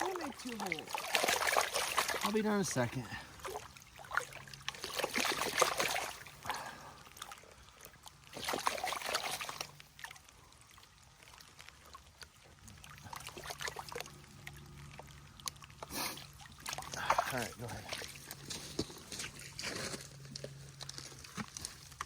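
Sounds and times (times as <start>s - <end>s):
creek water splashing: 0.0s - 22.0s.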